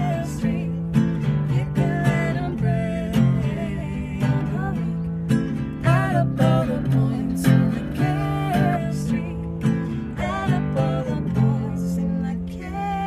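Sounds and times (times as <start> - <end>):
acoustic guitar strumming: 0.0 - 13.0
man and woman singing: 0.0 - 13.0.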